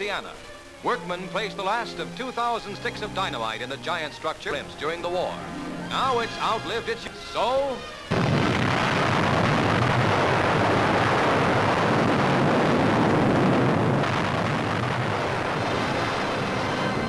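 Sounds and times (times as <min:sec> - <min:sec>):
dynamite blast: 0:00.0 - 0:17.0.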